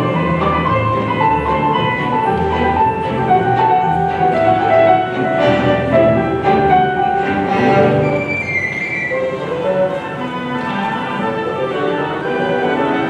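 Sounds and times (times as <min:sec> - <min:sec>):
orchestra playing carol: 0:00.0 - 0:13.0.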